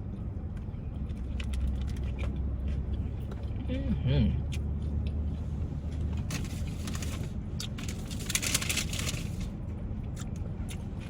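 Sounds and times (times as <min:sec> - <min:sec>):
chewing and crunching sandwich: 0:00.1 - 0:03.6, 0:04.4 - 0:11.0.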